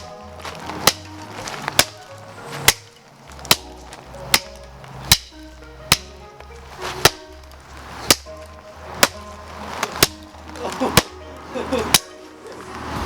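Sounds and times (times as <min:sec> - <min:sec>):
background music with slow beat: 0:00.0 - 0:13.0.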